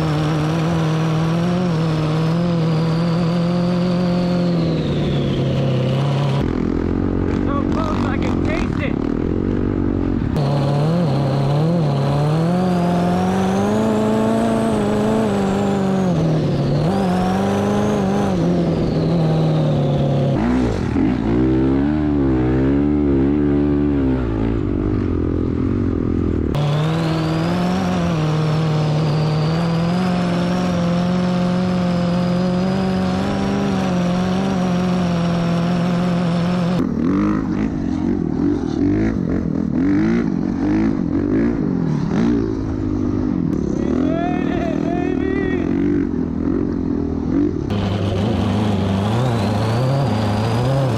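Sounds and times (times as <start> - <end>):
dirt bike engine at high revs: 0.0 - 50.9.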